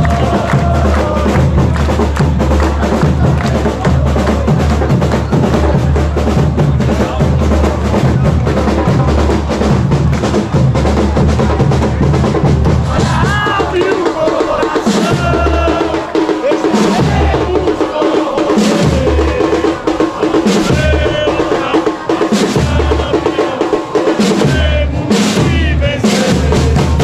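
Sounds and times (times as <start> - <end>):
drum section playing fast rhythm: 0.0 - 27.0.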